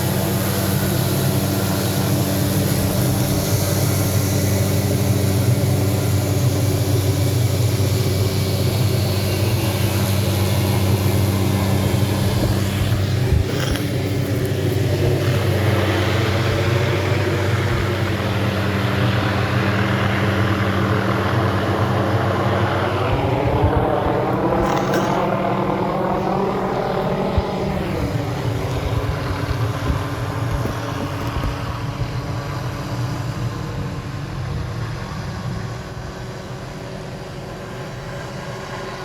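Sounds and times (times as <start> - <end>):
engine droning: 0.0 - 39.0.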